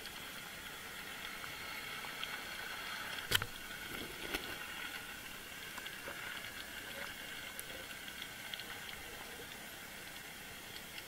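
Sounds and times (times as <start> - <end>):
faint ticks: 0.0 - 11.0.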